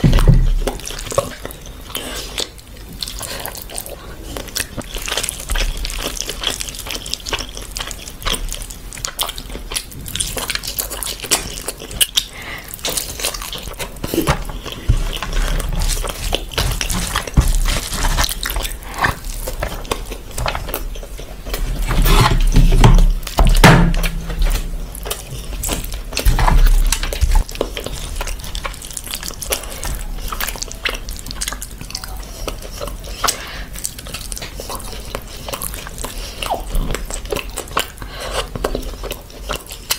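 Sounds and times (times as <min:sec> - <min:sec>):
biting and chewing: 0:00.0 - 0:39.9.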